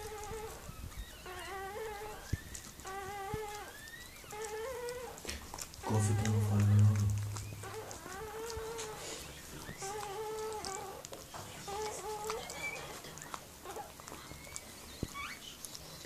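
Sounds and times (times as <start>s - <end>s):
puppy crying: 0.0s - 15.9s.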